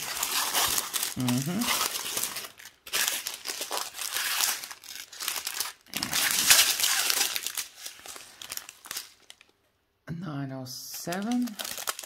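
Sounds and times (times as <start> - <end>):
plastic bags crinkling: 0.0 - 9.6, 10.9 - 12.0.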